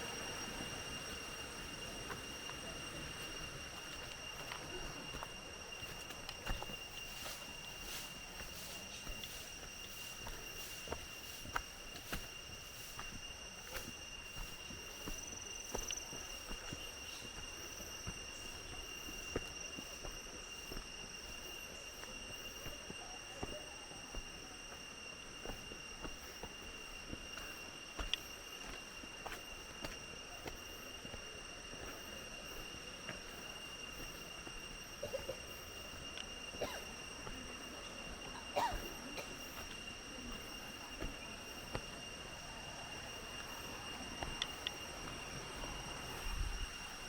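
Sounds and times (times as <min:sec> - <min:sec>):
footsteps on dirt trail: 0:00.0 - 0:47.0
insects droning: 0:00.0 - 0:47.0.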